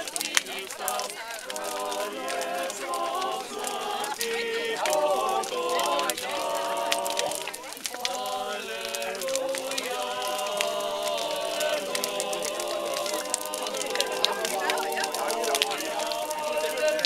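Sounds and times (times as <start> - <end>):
bonfire crackling and popping: 0.0 - 17.0
group of people singing: 0.0 - 17.0.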